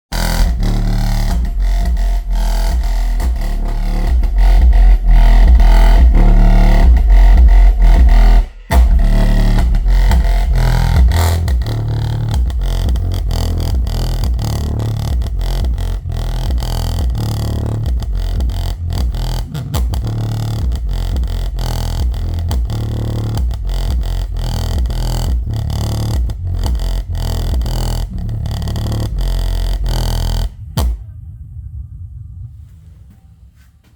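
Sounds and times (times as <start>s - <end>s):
distorted bass-heavy electronic music: 0.1s - 33.6s
speaker rattling noise: 0.2s - 33.9s.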